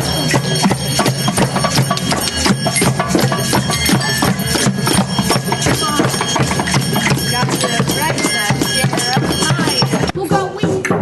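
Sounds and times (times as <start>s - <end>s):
steady held tones: 0.0s - 10.6s
children playing drums and percussion: 0.0s - 11.0s.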